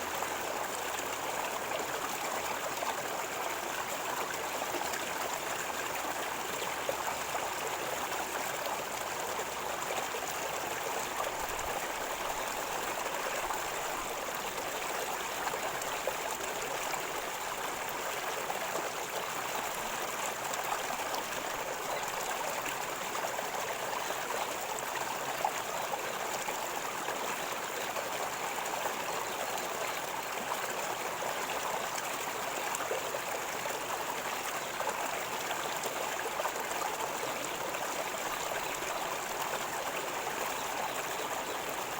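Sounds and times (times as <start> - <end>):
river water gurgling: 0.0 - 41.9.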